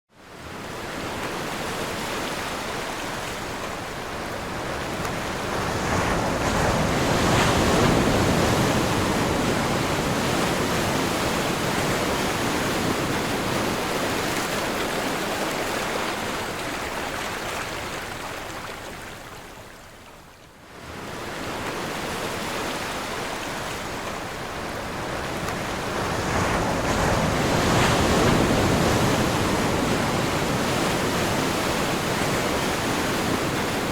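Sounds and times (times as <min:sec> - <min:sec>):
sea waves breaking on shore: 0:00.2 - 0:33.9.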